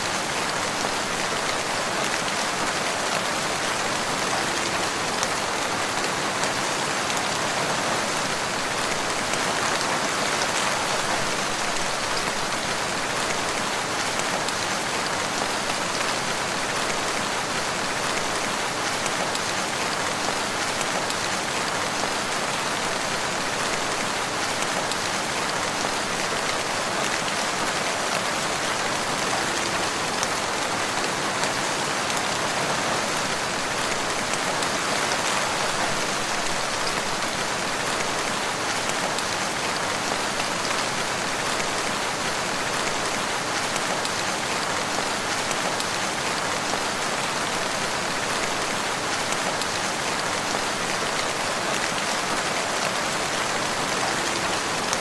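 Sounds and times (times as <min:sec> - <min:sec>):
steady rain pattering: 0:00.0 - 0:55.0.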